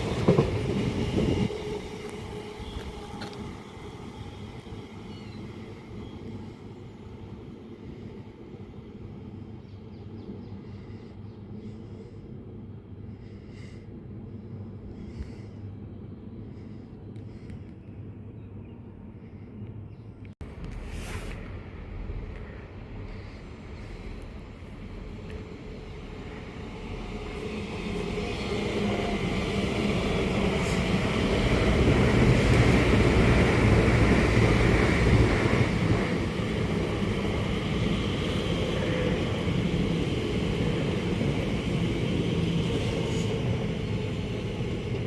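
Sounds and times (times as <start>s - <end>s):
train passing: 0.0s - 17.7s, 20.4s - 45.0s.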